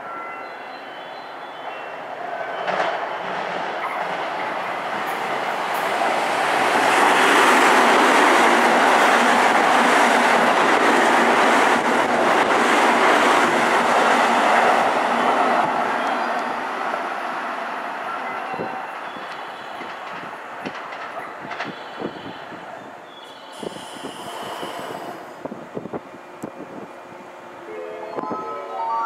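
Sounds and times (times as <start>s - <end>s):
electric train passing: 0.0s - 22.0s, 23.1s - 29.0s.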